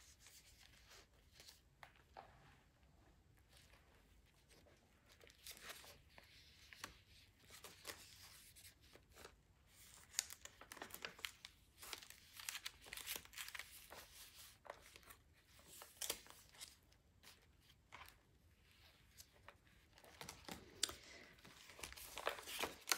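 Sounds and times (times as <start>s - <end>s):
paper pages rustling: 3.5s - 22.9s.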